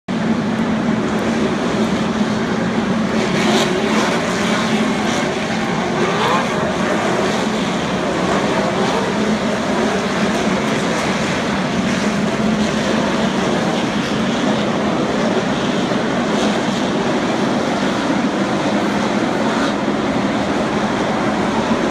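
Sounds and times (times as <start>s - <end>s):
race truck engines droning: 0.1s - 21.9s.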